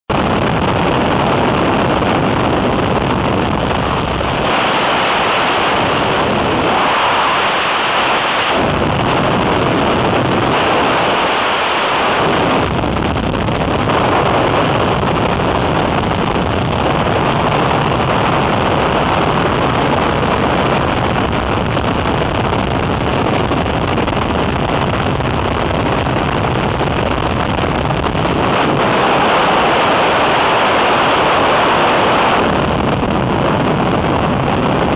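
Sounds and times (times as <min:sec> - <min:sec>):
biplane engine rumble: 0:00.1 - 0:34.9
wind rushing over microphone: 0:00.1 - 0:34.9.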